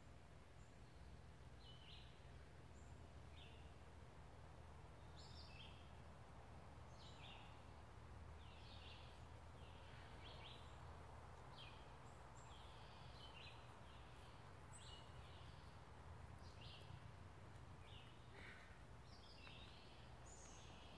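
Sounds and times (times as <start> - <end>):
low steady hum: 0.0 - 20.9.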